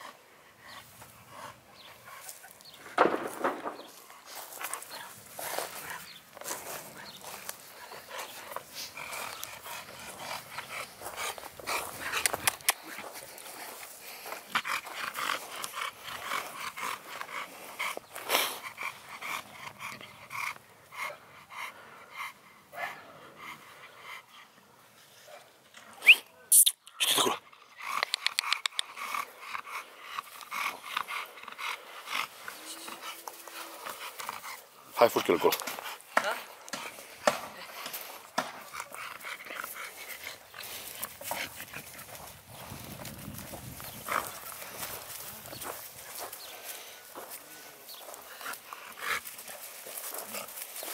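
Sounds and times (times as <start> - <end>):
dog panting: 0.0 - 25.5, 27.3 - 50.9.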